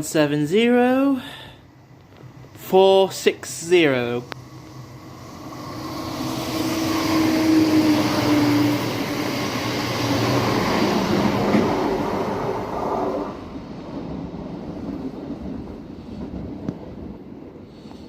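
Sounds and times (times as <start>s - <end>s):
diesel train engine: 0.0s - 18.0s
train wheel noise: 0.0s - 18.0s.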